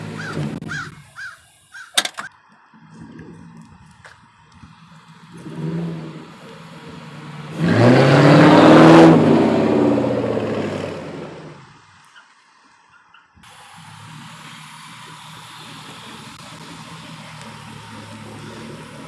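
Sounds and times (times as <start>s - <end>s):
car engine idling and revving: 0.0s - 1.2s, 2.0s - 19.0s.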